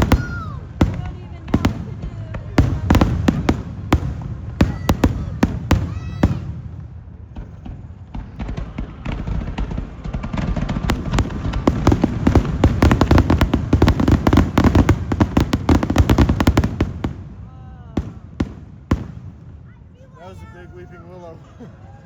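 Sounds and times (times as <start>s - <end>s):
fireworks bangs and crackles: 0.0s - 21.2s.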